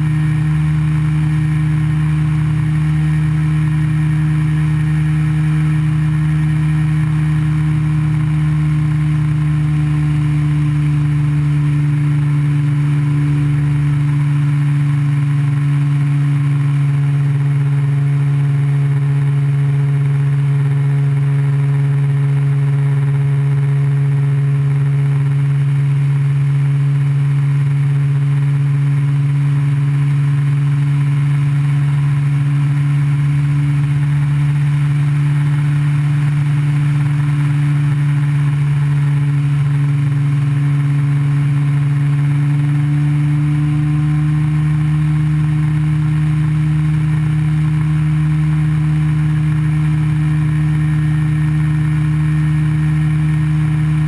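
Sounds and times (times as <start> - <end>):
aircraft engine drone: 0.0 - 54.0.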